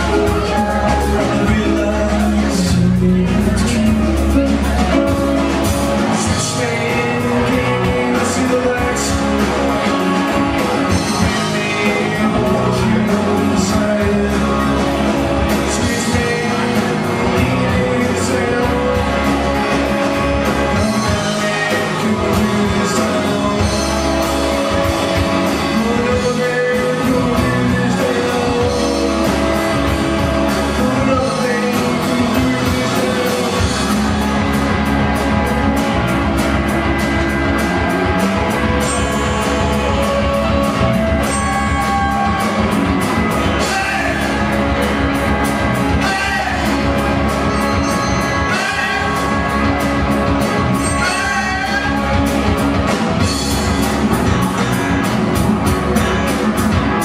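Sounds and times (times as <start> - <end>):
man singing: 0.0 - 35.8, 37.2 - 53.6
bass guitar: 0.0 - 57.0
drum kit: 0.0 - 57.0
electric guitar: 0.0 - 57.0.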